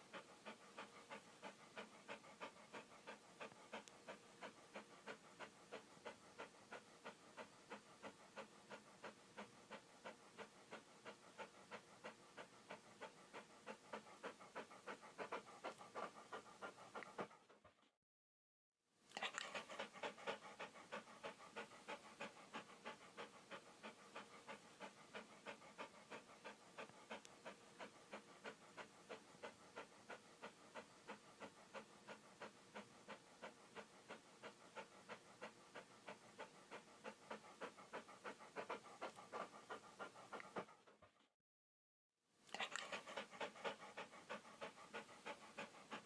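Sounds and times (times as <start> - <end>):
dog panting: 0.0 - 18.0, 19.1 - 41.3, 42.5 - 46.0.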